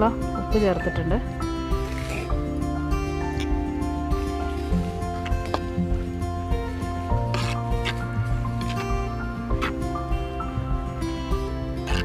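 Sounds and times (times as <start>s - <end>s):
instrumental music with beat: 2.3s - 12.0s.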